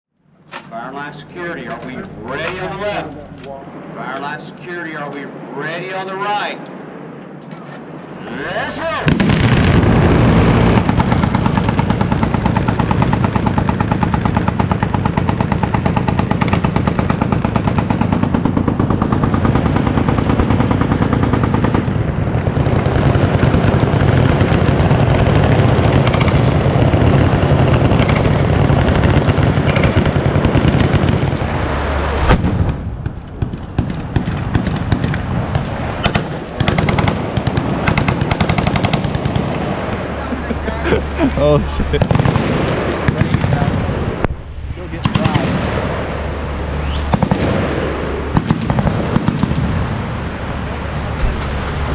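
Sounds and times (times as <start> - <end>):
machine gun fire: 9.0 - 39.7, 40.7 - 51.9.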